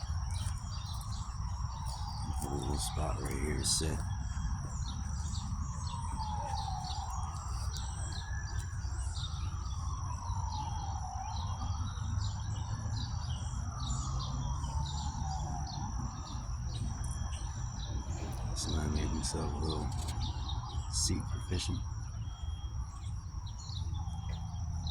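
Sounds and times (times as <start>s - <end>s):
birds chirping: 0.0s - 24.9s
faint siren wailing: 0.0s - 24.9s
high insect whine: 0.0s - 24.9s.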